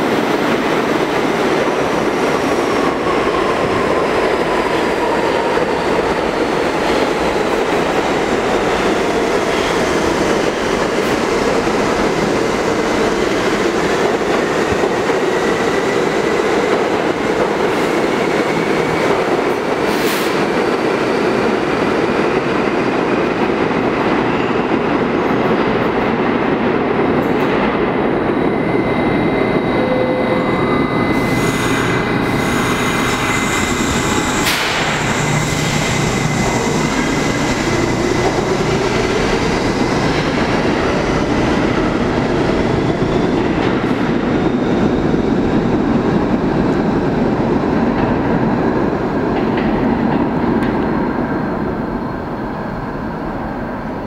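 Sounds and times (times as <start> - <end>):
train wheels rumbling on rails: 0.0 - 54.0
train whine: 0.0 - 54.0.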